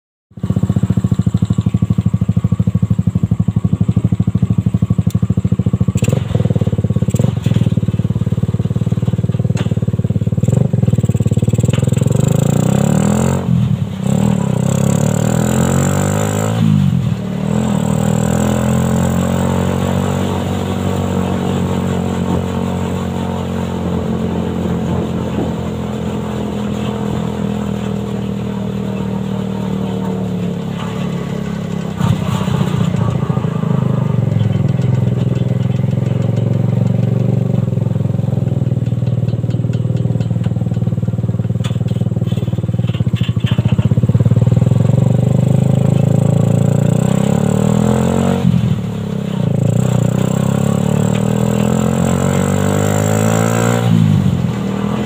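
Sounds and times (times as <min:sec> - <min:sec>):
motorcycle engine running: 0:00.3 - 0:55.0.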